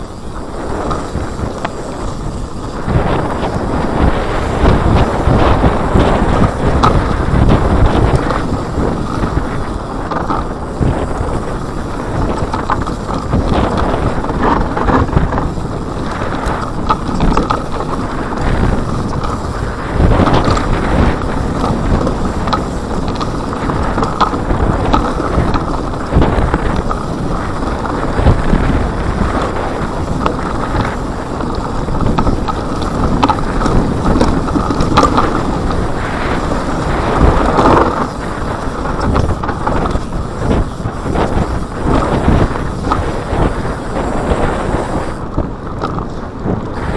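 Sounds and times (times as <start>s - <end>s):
bike knocks and rattles: 0.0s - 46.9s
wind buffeting microphone: 0.0s - 46.9s.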